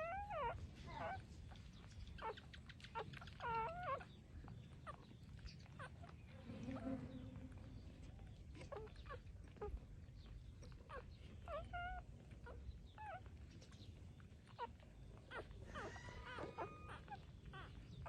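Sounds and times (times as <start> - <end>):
puppies whimpering and squeaking: 0.0 - 18.0.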